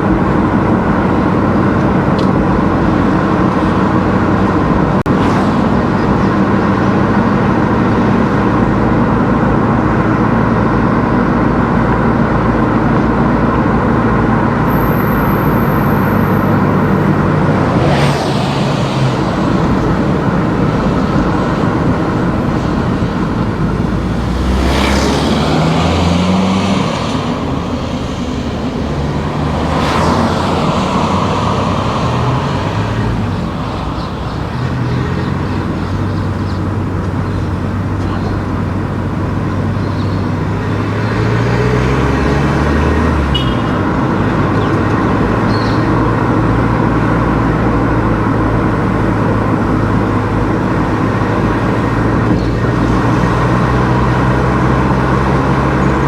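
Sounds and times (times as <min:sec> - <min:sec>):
car engine and road noise: 0:00.0 - 0:56.0
passing traffic whooshes: 0:00.0 - 0:56.0.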